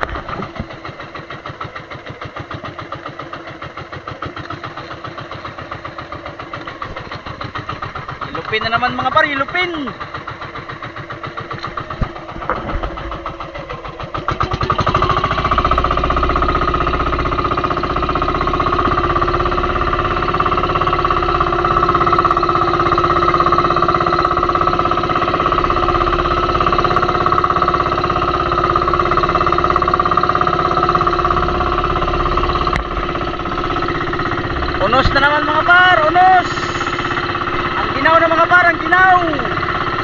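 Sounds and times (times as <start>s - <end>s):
boat engine idling and revving: 0.0s - 40.0s.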